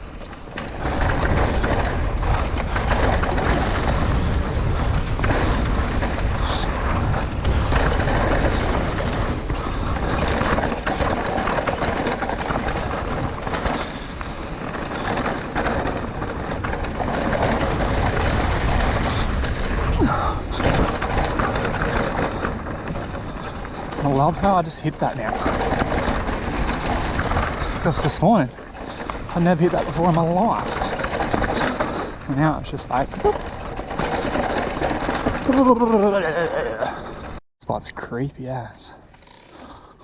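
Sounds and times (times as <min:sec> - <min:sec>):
bike rattling and knocking: 0:00.0 - 0:37.4, 0:39.0 - 0:40.0
bike tyres rolling over dirt: 0:00.0 - 0:37.4, 0:39.0 - 0:40.0
wind on microphone: 0:00.0 - 0:37.4.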